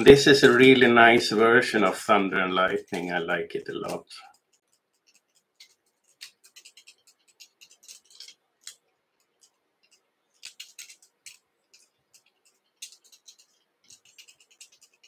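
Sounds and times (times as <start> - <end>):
thread rubbing scratchy ticks: 0.1 - 15.0.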